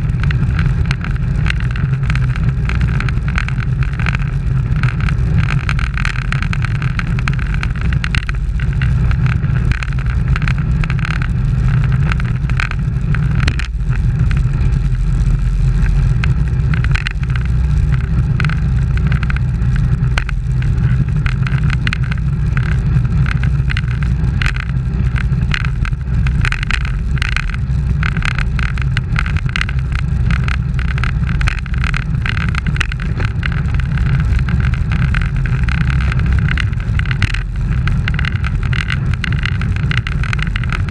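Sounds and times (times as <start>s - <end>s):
road noise: 0.0s - 40.9s
wind rumble on microphone: 0.0s - 40.9s.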